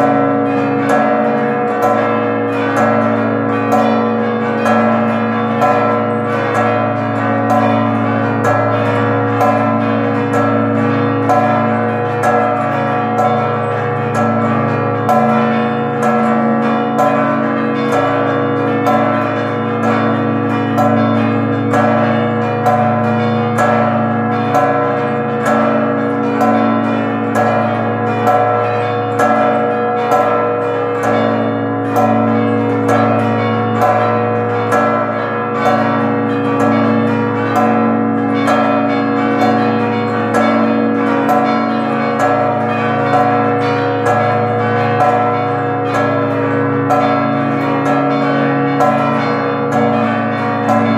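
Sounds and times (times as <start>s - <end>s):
church bells ringing a peal: 0.0s - 50.9s.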